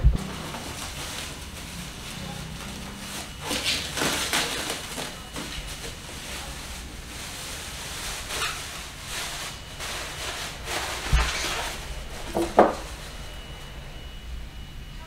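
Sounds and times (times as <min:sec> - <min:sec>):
plastic wrap rustling and crinkling: 0:00.2 - 0:14.2.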